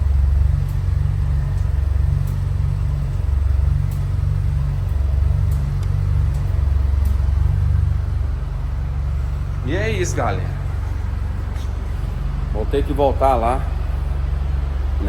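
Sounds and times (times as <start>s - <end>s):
faint suspension clicks: 0.0s - 14.4s
low road rumble: 0.0s - 15.0s.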